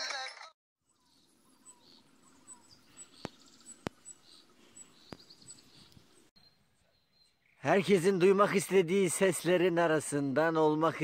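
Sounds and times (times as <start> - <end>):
outdoor background noise: 0.8 - 11.0
songbirds chirping: 0.8 - 11.0.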